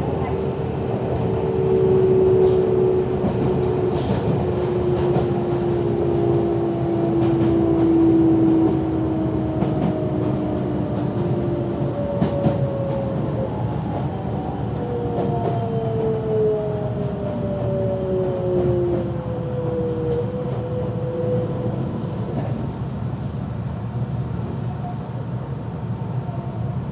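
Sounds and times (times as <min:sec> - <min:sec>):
train rumble with motor whine: 0:00.0 - 0:26.9.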